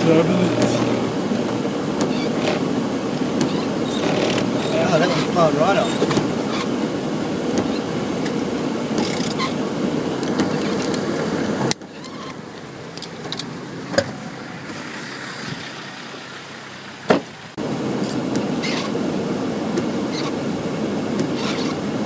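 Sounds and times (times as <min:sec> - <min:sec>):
floodwater rushing and churning: 0:00.0 - 0:11.8, 0:12.4 - 0:22.0.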